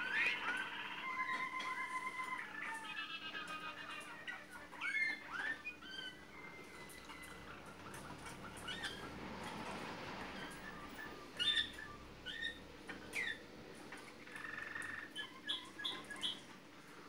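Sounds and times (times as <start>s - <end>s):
canaries chirping: 0.0s - 17.0s.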